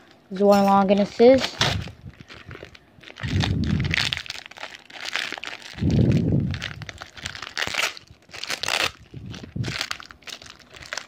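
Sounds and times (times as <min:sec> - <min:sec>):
plastic packaging crinkling and tearing: 0:01.0 - 0:11.0.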